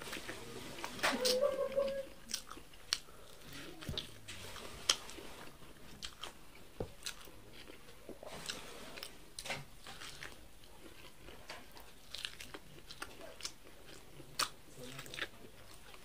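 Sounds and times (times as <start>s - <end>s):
person chewing corn on the cob: 0.0s - 16.0s.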